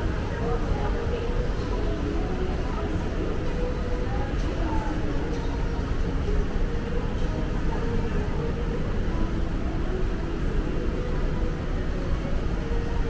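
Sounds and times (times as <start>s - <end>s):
rumble of crowd and building: 0.0s - 13.0s.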